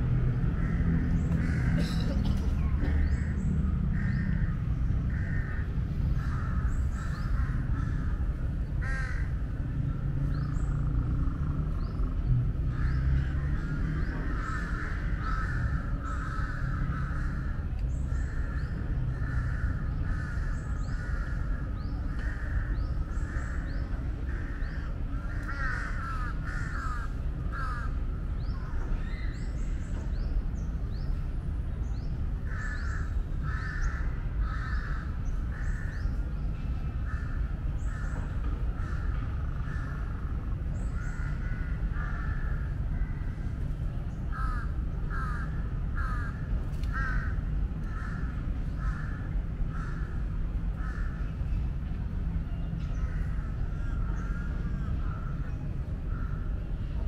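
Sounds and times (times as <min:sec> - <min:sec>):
birds calling: 0:00.0 - 0:51.6
steady low rumble: 0:00.0 - 0:57.0.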